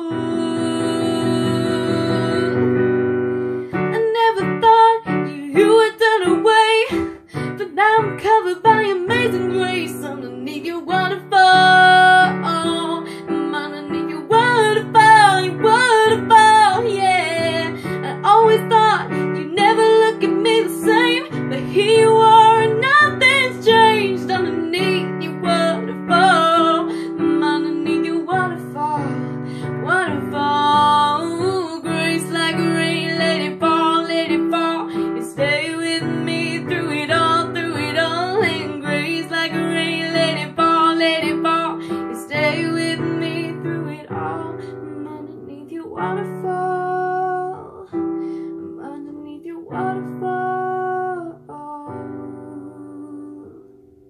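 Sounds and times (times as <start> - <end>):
keyboard piano chords: 0.0 - 54.0.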